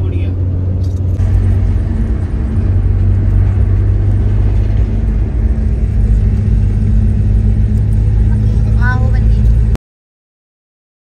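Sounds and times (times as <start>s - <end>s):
road and engine noise in car: 0.0s - 9.8s.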